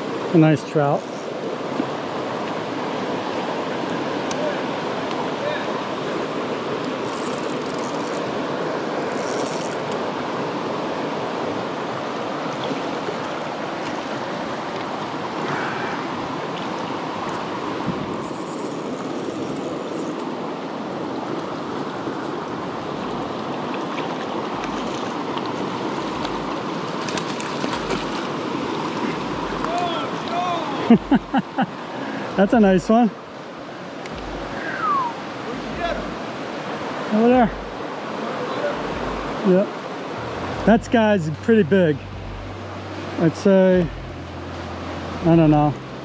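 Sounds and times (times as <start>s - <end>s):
creek water rushing over rapids: 0.0s - 46.0s.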